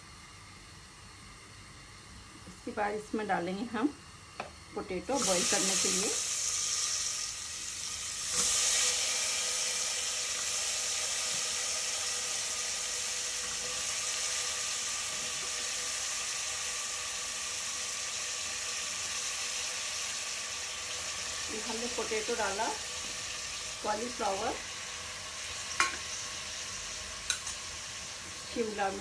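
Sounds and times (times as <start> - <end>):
oil sizzling: 4.6 - 29.0.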